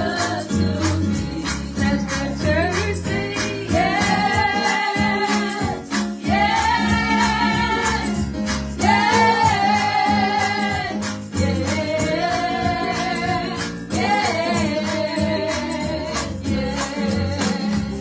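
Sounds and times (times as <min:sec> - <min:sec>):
women singing gospel: 0:00.0 - 0:18.0.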